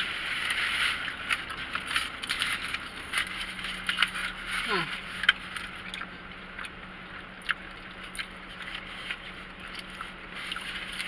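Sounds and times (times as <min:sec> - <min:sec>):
chewing: 0:00.0 - 0:11.0
low hum: 0:00.0 - 0:11.0.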